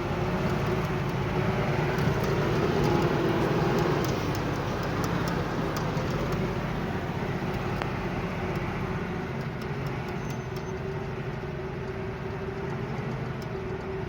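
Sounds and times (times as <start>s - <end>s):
faint ticks and rattles: 0.0s - 14.0s
truck diesel engine running: 0.0s - 14.0s.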